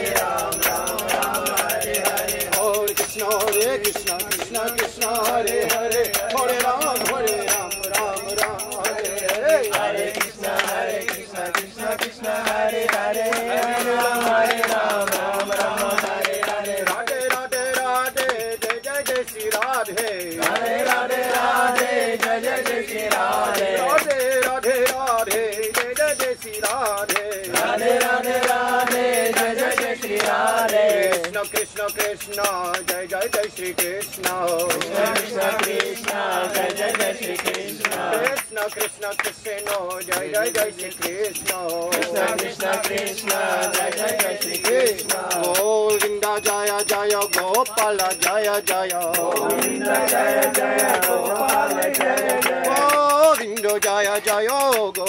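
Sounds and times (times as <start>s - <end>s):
jingling hand percussion: 0.0s - 55.0s
men chanting devotional song: 0.0s - 55.0s.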